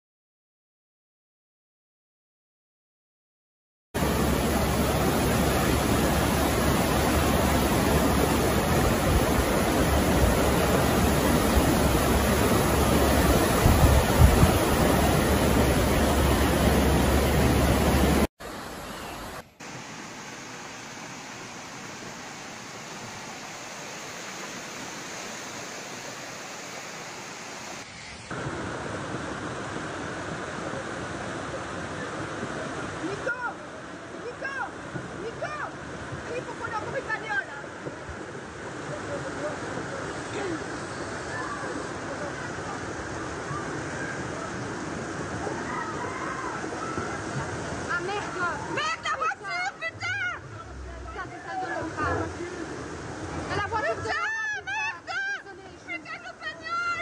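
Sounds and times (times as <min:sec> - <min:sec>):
floodwater rushing: 0:04.0 - 0:57.0.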